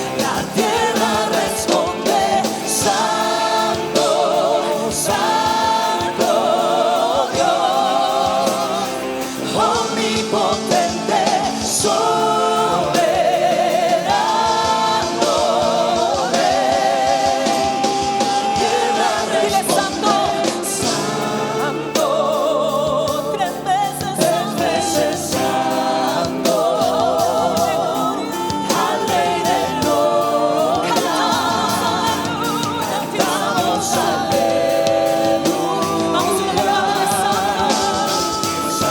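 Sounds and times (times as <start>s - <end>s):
band with steady beat: 0.0s - 38.9s
voices singing with choir backing: 0.0s - 38.9s.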